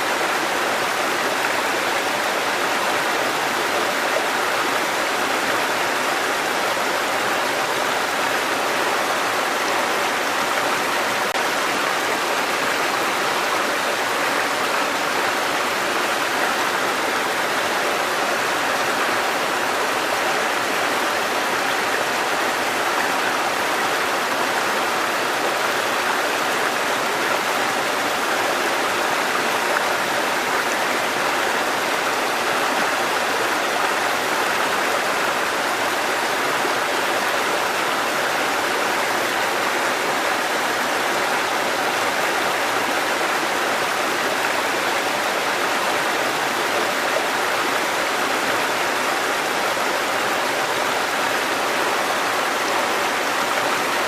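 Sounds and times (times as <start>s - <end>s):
water cascading over rocks: 0.0s - 54.0s.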